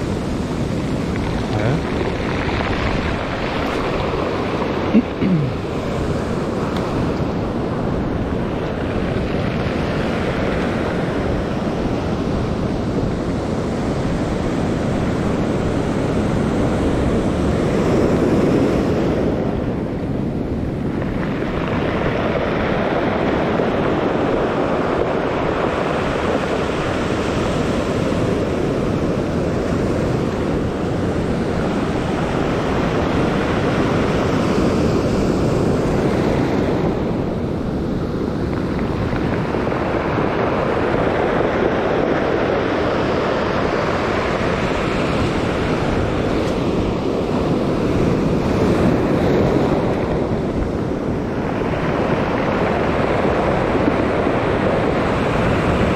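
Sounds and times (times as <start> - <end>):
surf washing over pebble beach: 0.0 - 55.9.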